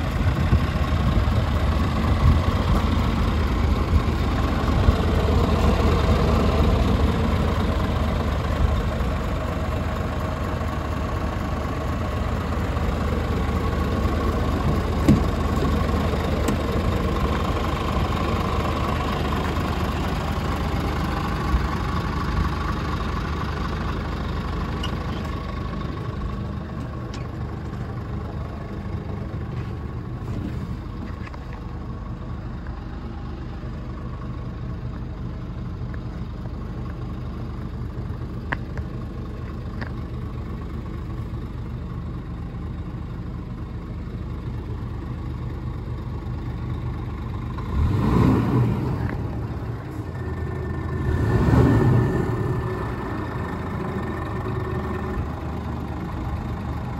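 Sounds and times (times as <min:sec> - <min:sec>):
truck diesel engine idling: 0:00.0 - 0:56.9.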